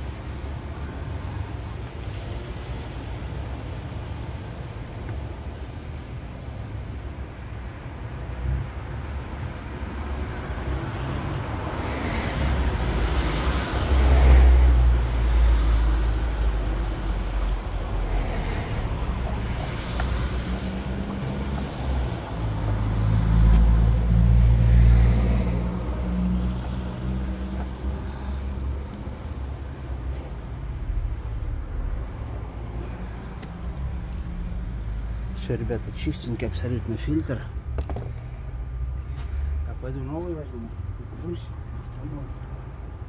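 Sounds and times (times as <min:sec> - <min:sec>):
vehicles passing by: 0:00.0 - 0:43.0.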